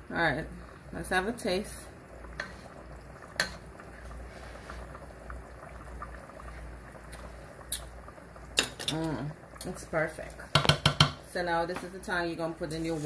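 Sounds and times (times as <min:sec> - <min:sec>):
pot bubbling at a simmer: 0:00.0 - 0:13.0.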